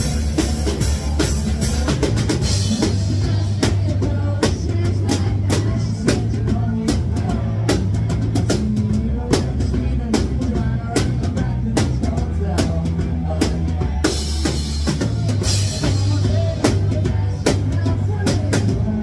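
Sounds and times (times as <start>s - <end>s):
drum kit beat: 0.0s - 19.0s
electric bass guitar: 0.0s - 19.0s.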